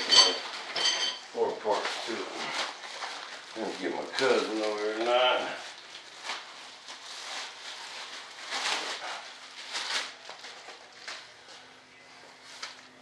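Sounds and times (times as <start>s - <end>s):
faint steady hum: 0.0s - 13.0s
rustling and handling noises: 0.0s - 13.0s.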